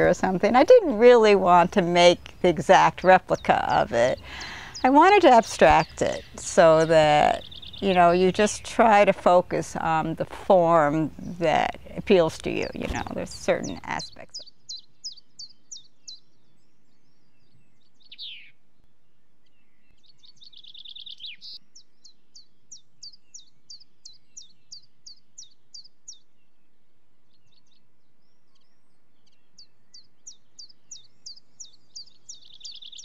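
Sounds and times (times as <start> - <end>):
songbird chirping and trilling: 0.0 - 33.0.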